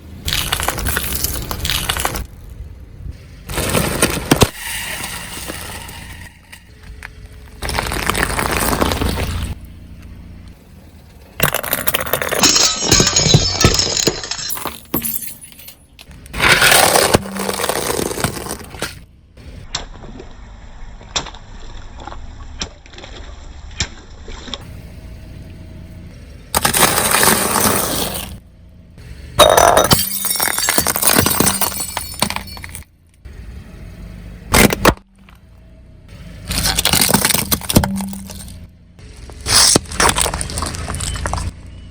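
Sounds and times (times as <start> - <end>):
car tyres crunching brittle objects: 0.0 - 24.7, 26.1 - 28.4, 29.4 - 33.3, 34.5 - 35.6, 36.2 - 41.9.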